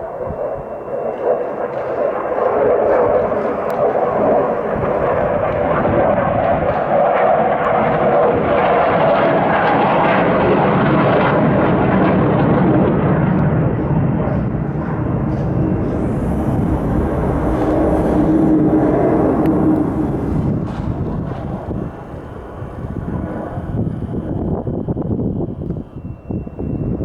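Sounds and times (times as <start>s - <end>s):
jet roar overhead: 0.0s - 27.0s.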